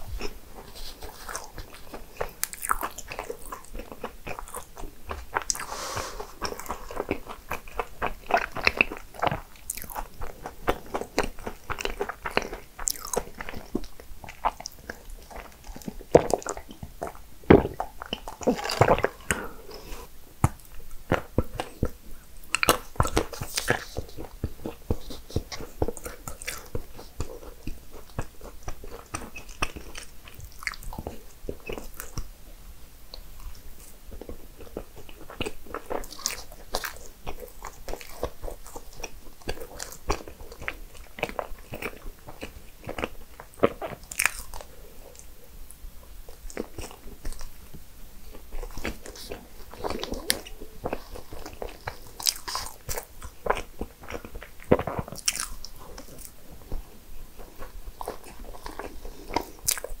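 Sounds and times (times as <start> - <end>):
crunchy chewing: 0.0 - 32.3, 33.1 - 60.0.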